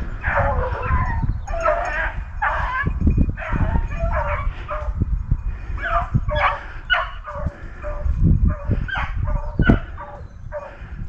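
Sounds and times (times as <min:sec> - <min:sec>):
beagles baying: 0:00.0 - 0:11.0.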